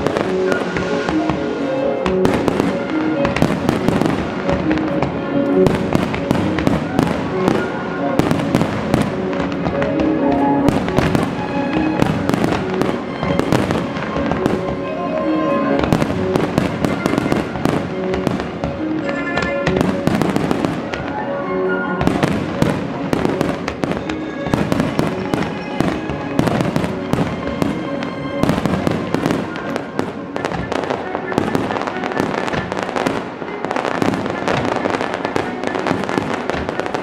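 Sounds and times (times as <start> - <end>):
fireworks bursting with crackling: 0.0 - 37.0
music: 0.0 - 37.0.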